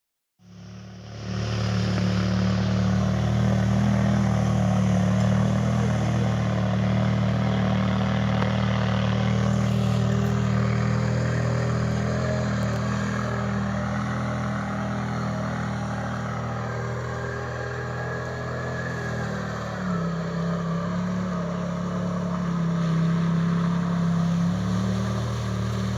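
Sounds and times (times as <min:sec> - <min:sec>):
off-road vehicle engine running: 0:00.4 - 0:25.9.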